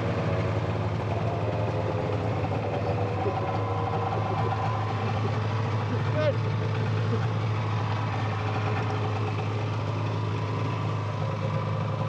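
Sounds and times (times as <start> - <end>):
snowmobile engine idling: 0.0 - 12.0.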